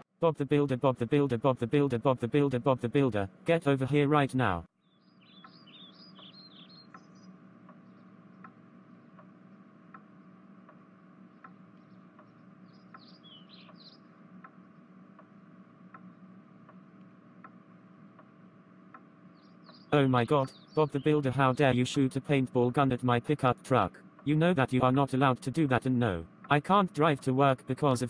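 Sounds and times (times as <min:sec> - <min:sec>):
low steady hum: 0:00.0 - 0:28.0
birds chirping: 0:00.3 - 0:28.0
light regular ticking: 0:05.3 - 0:28.0.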